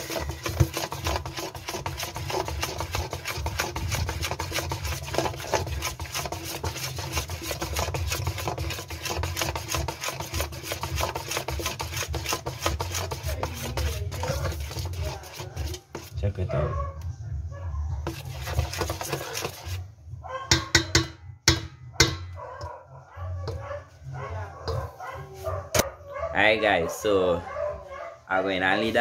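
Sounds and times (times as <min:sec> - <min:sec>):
hand mixing batter in bowl: 0:00.0 - 0:16.7, 0:18.0 - 0:22.2, 0:23.4 - 0:27.4, 0:28.4 - 0:29.0.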